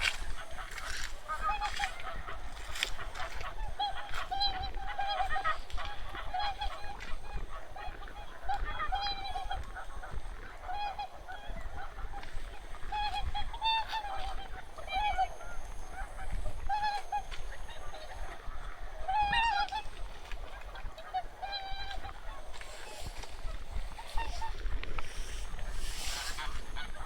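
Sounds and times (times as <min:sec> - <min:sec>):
geese honking: 0:00.0 - 0:27.0.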